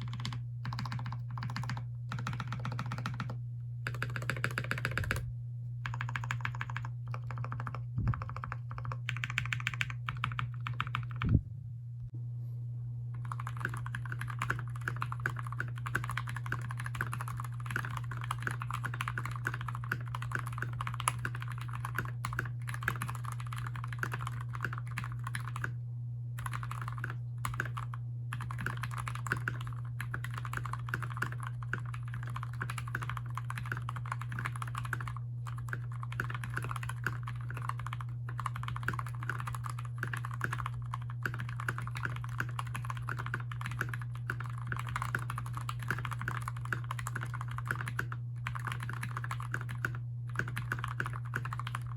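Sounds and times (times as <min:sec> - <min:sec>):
mechanical keyboard typing: 0:00.0 - 0:05.2, 0:05.8 - 0:11.3, 0:13.2 - 0:25.7, 0:26.4 - 0:51.9
steady low hum: 0:00.0 - 0:51.9.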